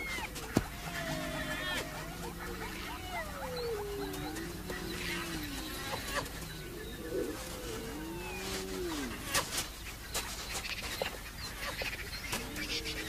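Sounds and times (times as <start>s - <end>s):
hyena pups calling: 0.0s - 9.6s, 12.0s - 13.0s.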